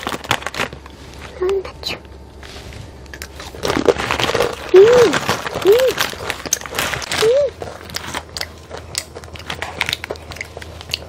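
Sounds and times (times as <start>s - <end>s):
chips crunching: 0.0s - 1.3s, 3.0s - 11.0s.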